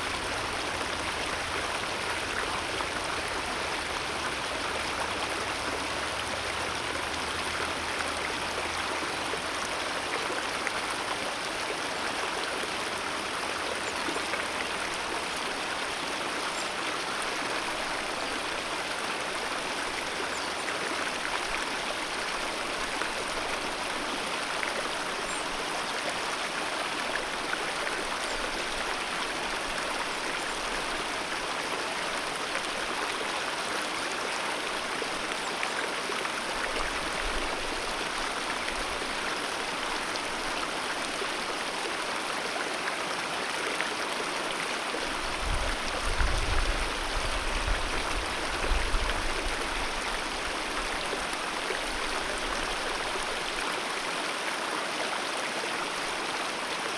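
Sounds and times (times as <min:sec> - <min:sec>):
mountain river flowing: 0:00.0 - 0:56.9.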